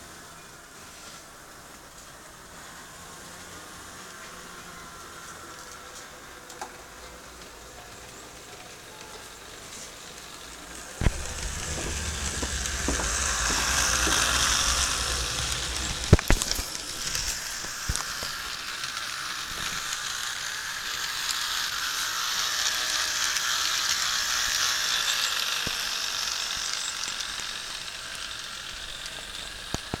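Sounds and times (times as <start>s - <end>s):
model train motor whirring: 0.0s - 30.0s
model train wheels clicking: 3.1s - 30.0s.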